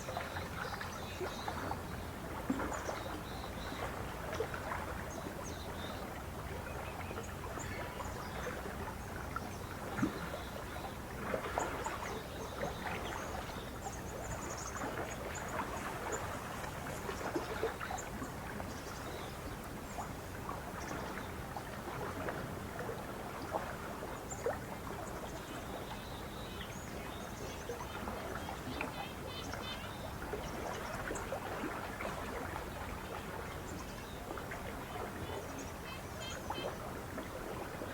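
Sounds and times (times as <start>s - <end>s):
lake water lapping: 0.0s - 37.9s.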